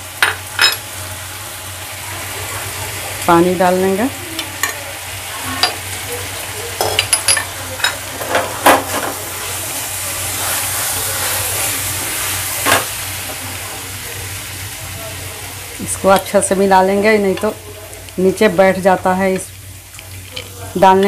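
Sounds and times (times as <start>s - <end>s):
vegetables sizzling in frying pan: 0.0s - 21.0s.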